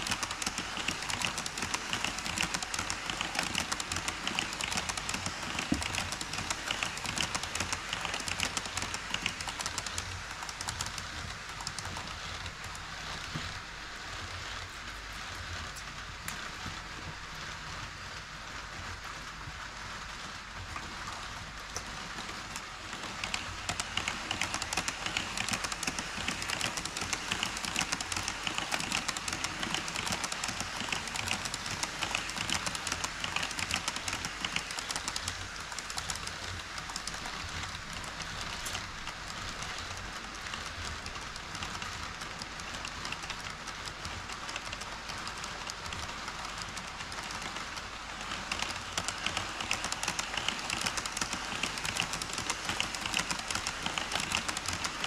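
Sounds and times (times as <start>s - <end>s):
model train wheels rattling on rails: 0.0s - 55.0s.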